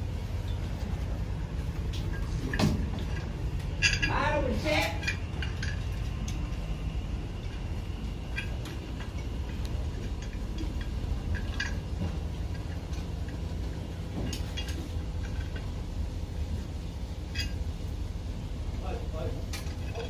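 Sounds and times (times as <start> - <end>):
low machinery rumble: 0.0 - 20.0.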